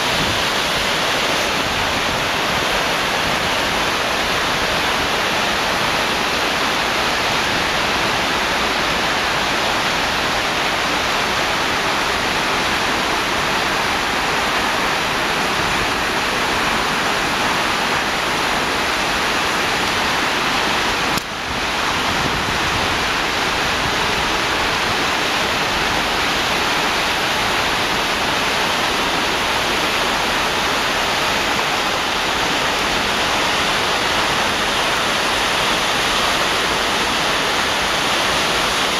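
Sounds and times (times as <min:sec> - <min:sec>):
floodwater roaring: 0:00.0 - 0:38.9.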